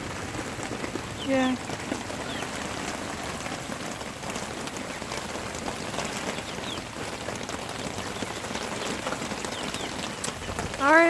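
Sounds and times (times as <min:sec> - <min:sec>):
rain on a tarp roof: 0:00.0 - 0:11.0.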